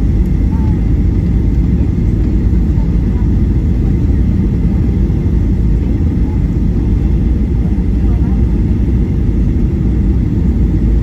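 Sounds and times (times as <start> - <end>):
airplane cabin roar: 0.0 - 11.0.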